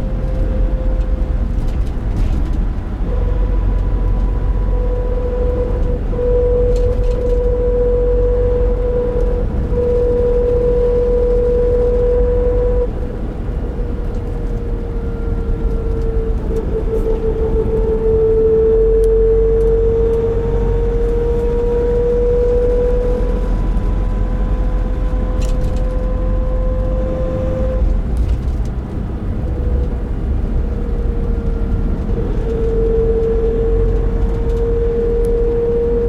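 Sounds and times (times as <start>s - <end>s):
diesel engine driving: 0.0s - 36.0s
droning hum: 0.0s - 36.0s
road rumble: 0.0s - 36.0s.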